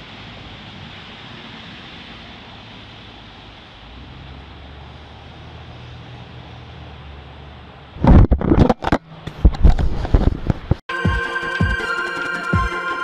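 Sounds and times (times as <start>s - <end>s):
distant traffic rumble: 0.0s - 10.8s.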